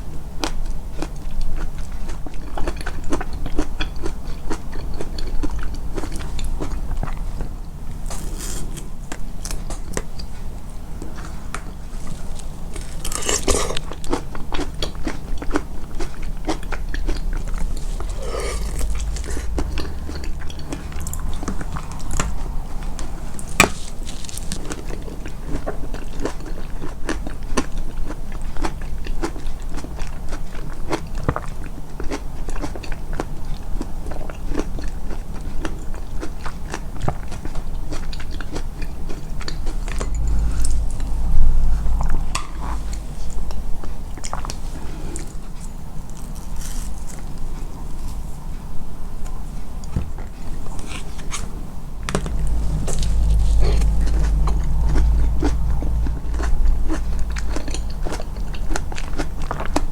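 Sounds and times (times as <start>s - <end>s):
chewing and biting food: 0.0s - 48.6s, 49.2s - 59.9s.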